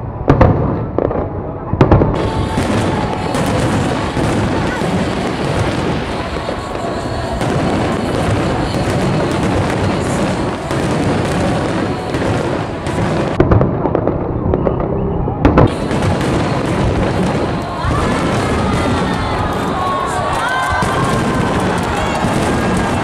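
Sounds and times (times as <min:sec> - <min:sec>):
fireworks barrage: 0:00.0 - 0:23.0
large crowd noise: 0:00.0 - 0:23.0.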